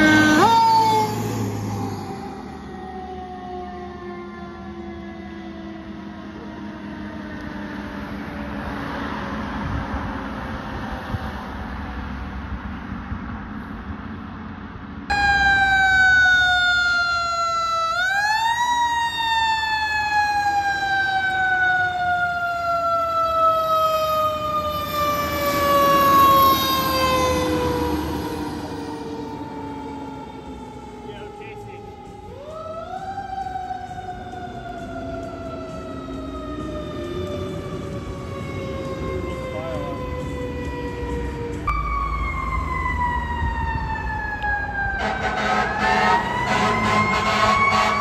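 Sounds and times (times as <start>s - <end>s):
fire engine siren wailing: 0.0s - 13.4s, 15.1s - 48.0s
loud fire engine siren: 0.0s - 48.0s.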